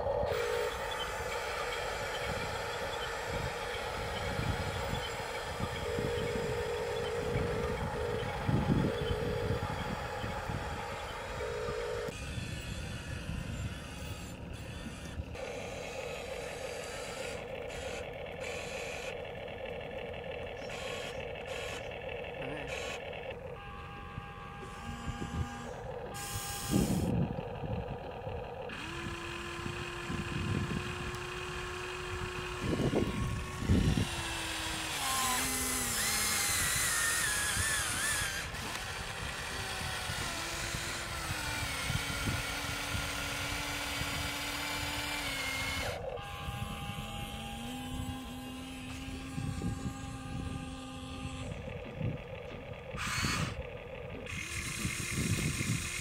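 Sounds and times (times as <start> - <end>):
electric motors whining: 0.0 - 56.0.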